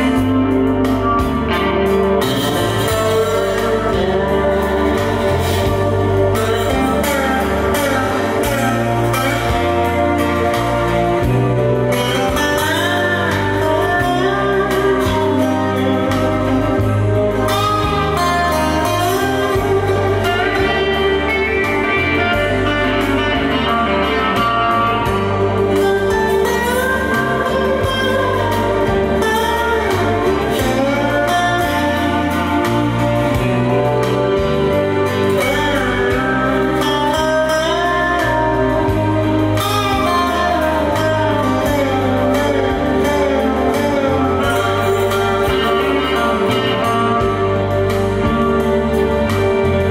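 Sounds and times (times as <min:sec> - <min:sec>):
music with deep bass line: 0:00.0 - 0:49.9.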